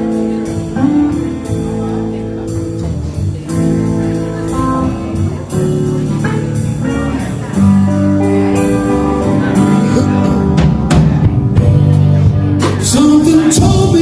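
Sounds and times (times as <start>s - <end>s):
electric guitar: 0.0s - 14.0s
live blues band playing: 0.0s - 14.0s.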